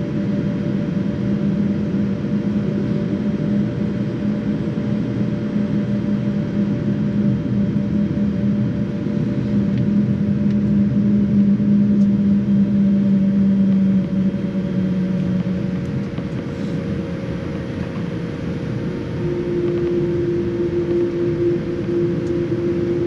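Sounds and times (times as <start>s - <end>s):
aircraft engine rumble in cabin: 0.0s - 23.0s
low hum: 0.0s - 23.0s.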